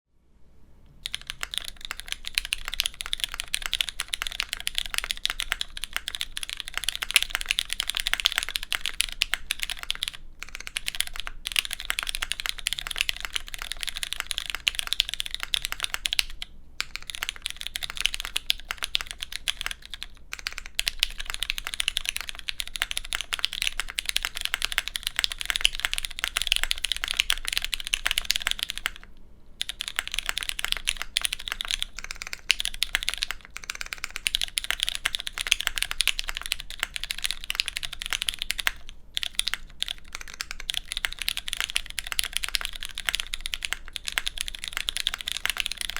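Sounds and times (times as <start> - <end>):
fast mechanical keyboard typing: 1.0 - 45.9.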